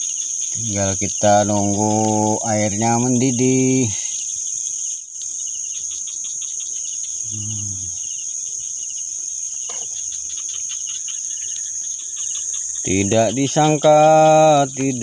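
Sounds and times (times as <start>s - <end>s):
crickets and night insects: 0.0s - 15.0s.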